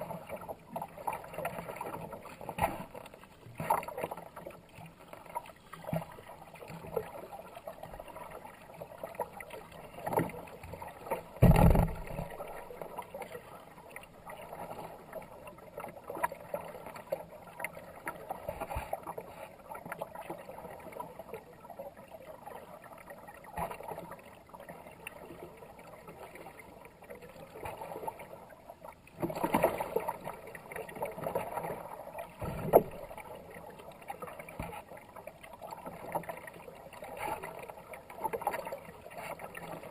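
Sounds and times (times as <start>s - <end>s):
water swishing along hull: 0.0s - 39.9s.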